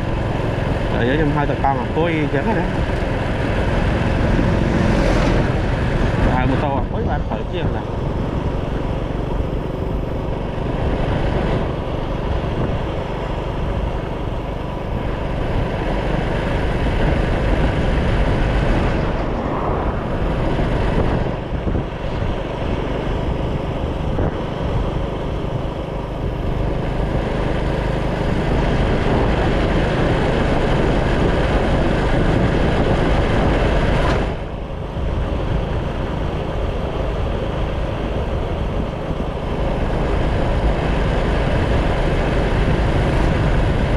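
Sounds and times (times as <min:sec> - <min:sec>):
motorcycle running: 0:00.0 - 0:43.9
wind and road noise: 0:00.0 - 0:43.9.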